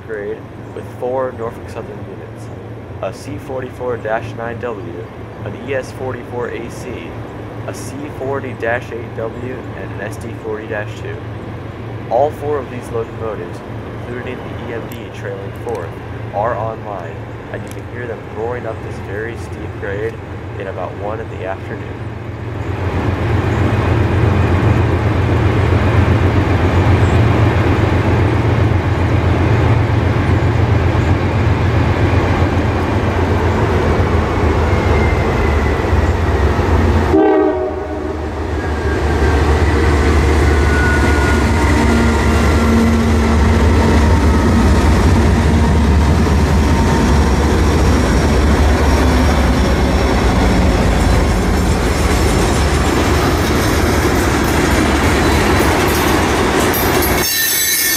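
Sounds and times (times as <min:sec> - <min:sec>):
diesel locomotives droning: 0:00.0 - 0:57.9.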